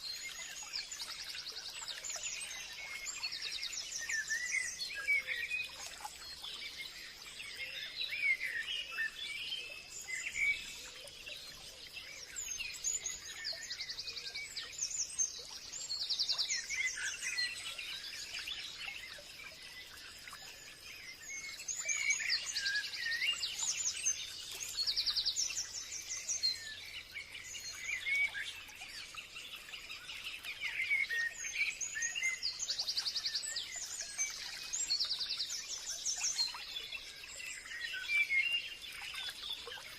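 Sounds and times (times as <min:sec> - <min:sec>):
forest birds calling and singing: 0:00.0 - 0:39.9.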